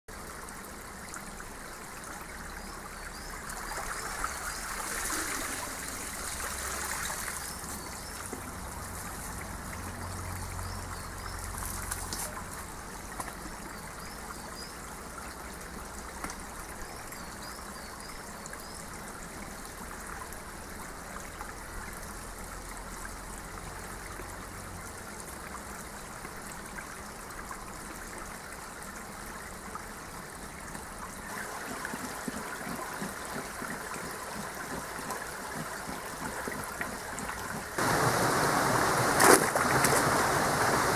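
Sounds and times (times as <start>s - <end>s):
water trickling over stones: 0.1s - 40.9s.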